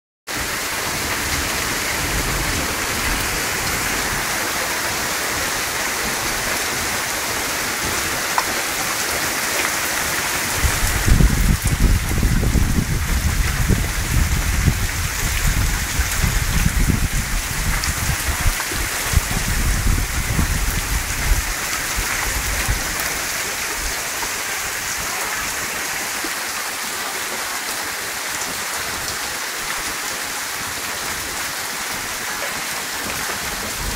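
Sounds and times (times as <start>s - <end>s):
rain pattering on surfaces: 0.3s - 33.9s.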